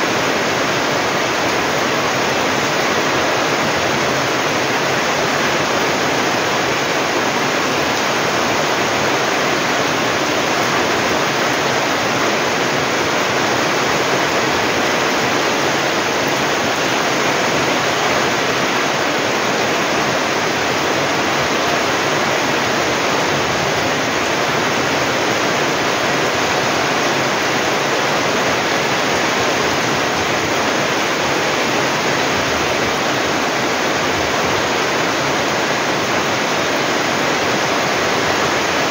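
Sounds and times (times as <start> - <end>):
heavy rain on foliage: 0.0 - 38.9.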